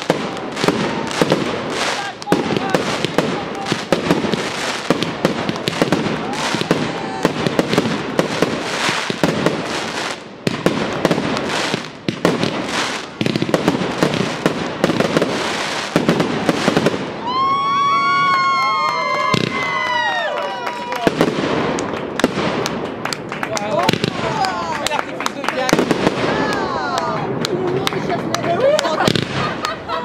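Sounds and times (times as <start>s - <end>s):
fireworks bursts: 0.0s - 30.0s
fireworks crackling: 0.0s - 30.0s.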